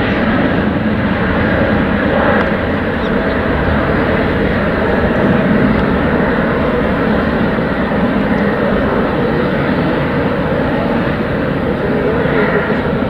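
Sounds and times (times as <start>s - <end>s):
jet engines rumbling and hissing: 0.0s - 13.0s.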